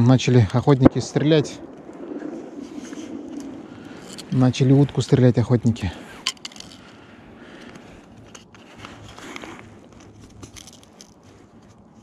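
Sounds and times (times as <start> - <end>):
fishing gear rustling and scraping: 2.2 - 12.0.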